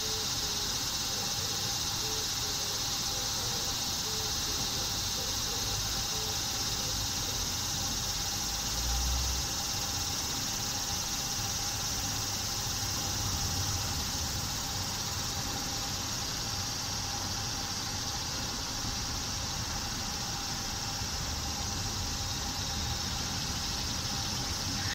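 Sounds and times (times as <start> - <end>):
high-pitched insect chorus: 0.0 - 24.9.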